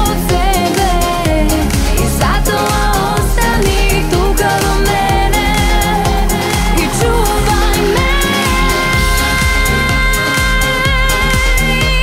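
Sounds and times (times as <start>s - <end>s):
pop song with band and drums: 0.0s - 12.0s.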